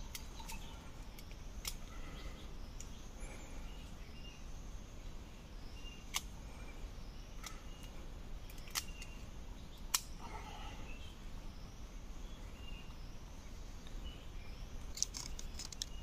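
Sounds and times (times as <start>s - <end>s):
faint bird chirps: 0.0s - 16.0s
low outdoor background: 0.0s - 16.0s.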